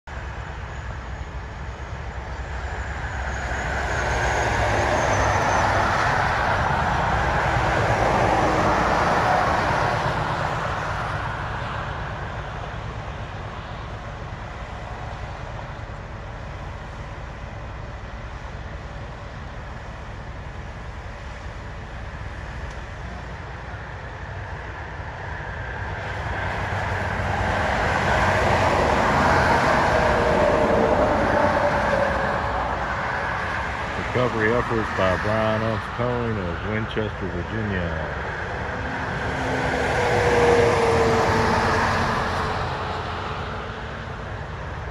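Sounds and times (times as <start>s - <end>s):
steady low traffic rumble: 0.0s - 44.9s
truck tyres and engine rushing past: 0.1s - 44.9s
vehicle passing on highway: 2.4s - 44.9s.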